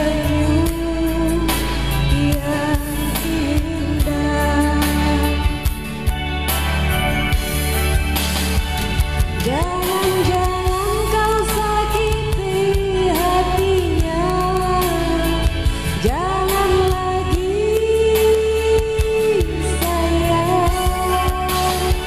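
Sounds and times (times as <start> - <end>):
person singing: 0.0 - 6.1, 9.4 - 22.0
bass line: 0.0 - 22.0
song over small speakers: 0.0 - 22.0.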